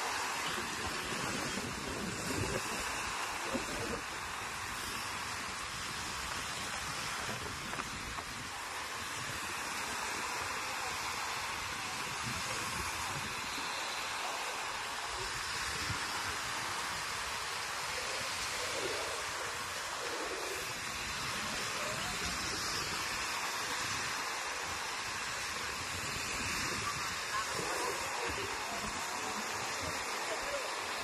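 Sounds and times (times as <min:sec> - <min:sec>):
small waves washing on beach: 0:00.0 - 0:31.0.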